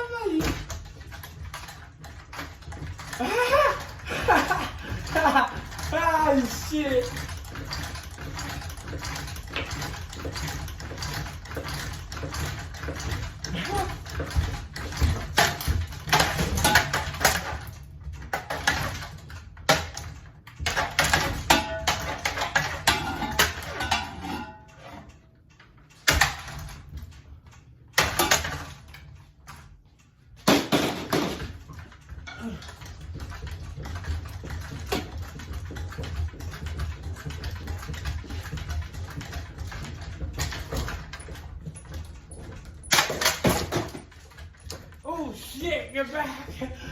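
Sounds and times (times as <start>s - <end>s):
rapid uneven fan clicking: 0.0s - 30.5s, 31.1s - 46.9s
ceiling fan rumbling: 0.0s - 46.9s.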